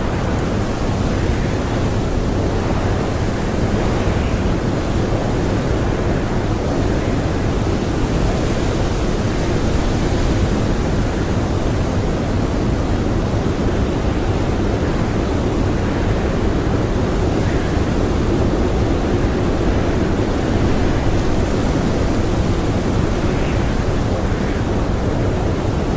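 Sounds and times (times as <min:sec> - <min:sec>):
blizzard wind blowing: 0:00.0 - 0:25.9.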